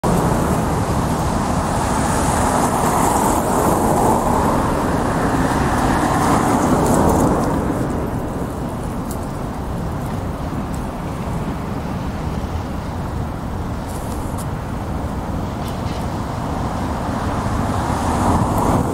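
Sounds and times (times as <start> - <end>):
city street traffic: 0.0 - 18.9.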